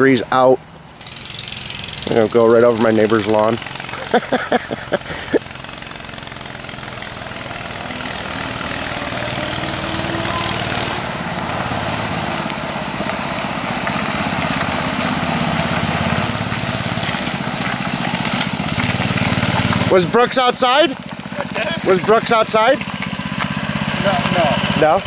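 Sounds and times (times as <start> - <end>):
small petrol engine running: 0.9 - 25.0.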